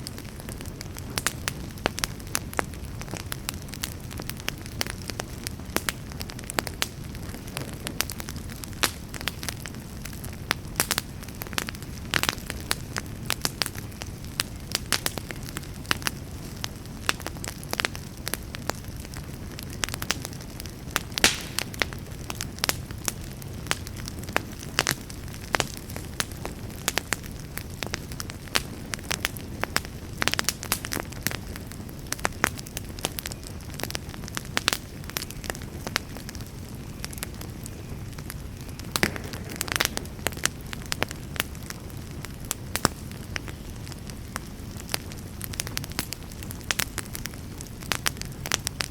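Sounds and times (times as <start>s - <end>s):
fire crackling and popping: 0.0s - 48.9s
low rumble of flame: 0.0s - 48.9s.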